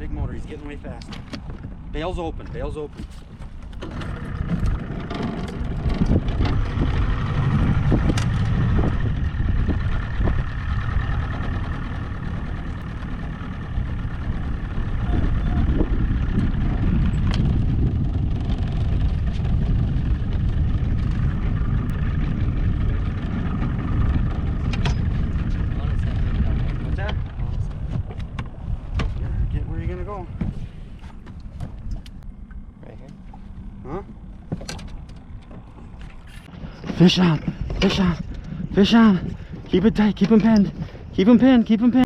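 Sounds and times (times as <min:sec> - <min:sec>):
outboard motor rumbling: 0:00.0 - 0:42.0.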